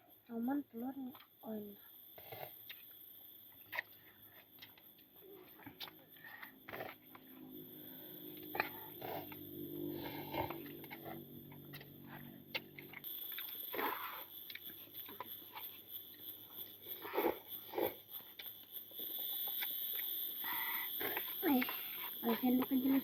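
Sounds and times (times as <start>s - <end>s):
people chewing: 2.2s - 23.0s.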